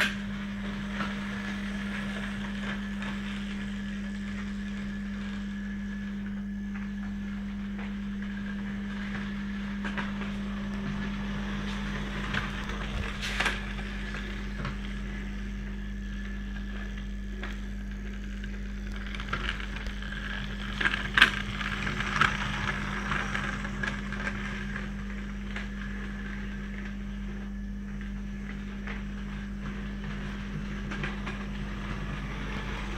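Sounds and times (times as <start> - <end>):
model train low hum: 0.0 - 32.9.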